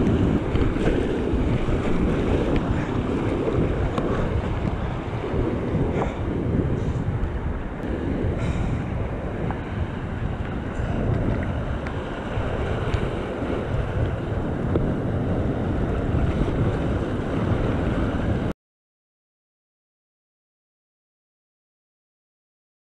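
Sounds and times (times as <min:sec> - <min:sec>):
breaking surf and whitewater: 0:00.0 - 0:18.5
wind buffeting microphone: 0:00.0 - 0:18.5.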